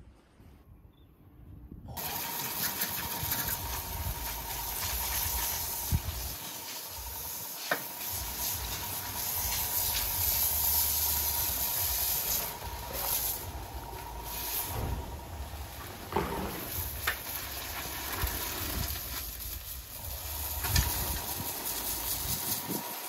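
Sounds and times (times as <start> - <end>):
sawmill machinery hiss and whine: 1.9 - 23.0.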